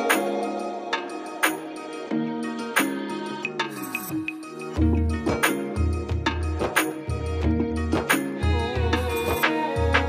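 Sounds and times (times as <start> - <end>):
film music with heavy bass beat: 0.0 - 10.0.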